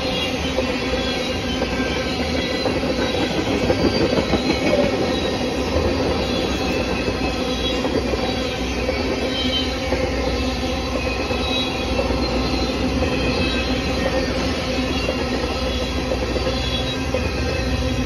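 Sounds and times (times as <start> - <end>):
high-pitched wheel squeals: 0.0 - 18.0
steel wheels clattering on rails: 0.0 - 18.0.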